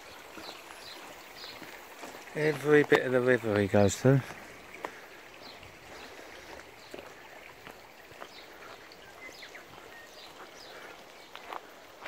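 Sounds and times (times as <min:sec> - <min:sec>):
background hiss: 0:00.0 - 0:12.0
footsteps on grassy dirt track: 0:00.0 - 0:12.0.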